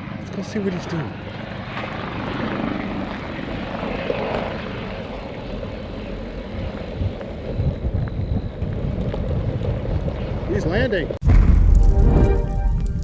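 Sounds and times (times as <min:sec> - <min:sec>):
helicopter rotor and engine rumble: 0:00.0 - 0:11.2.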